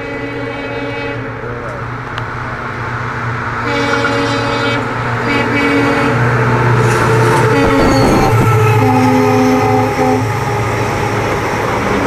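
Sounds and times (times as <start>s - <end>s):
locomotive horn blasts: 0.0s - 1.6s, 3.6s - 12.0s
diesel locomotive engine drone: 0.0s - 12.0s.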